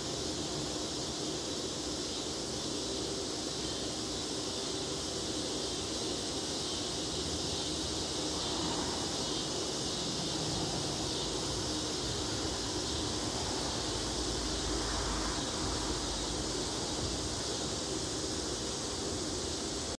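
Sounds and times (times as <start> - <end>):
even hiss: 0.0 - 19.9.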